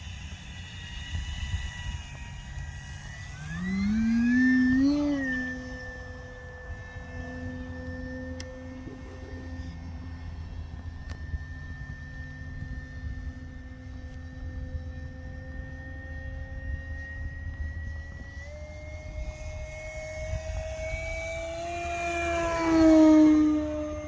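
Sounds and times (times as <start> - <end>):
model airplane motor whine: 0.0 - 24.0.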